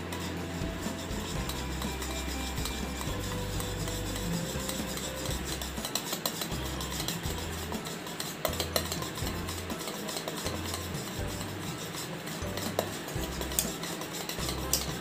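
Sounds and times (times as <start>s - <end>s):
whisk clicks: 0.0s - 15.0s
whisk stirring and scraping batter: 0.0s - 15.0s.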